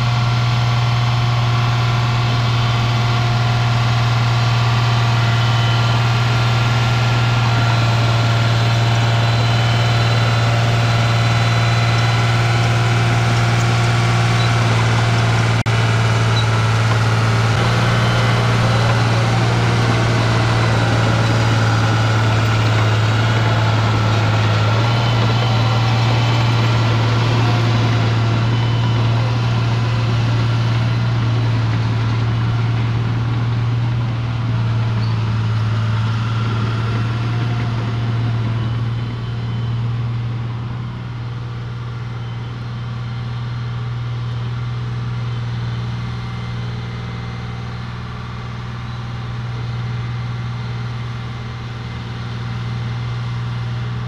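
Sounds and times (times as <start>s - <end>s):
dozer diesel engine running: 0.0s - 54.0s.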